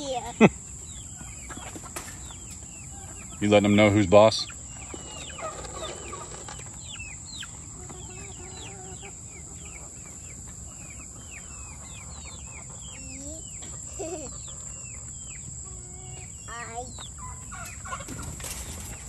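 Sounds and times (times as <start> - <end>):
chickens clucking: 0.0 - 19.0
chicks peeping: 0.0 - 19.0.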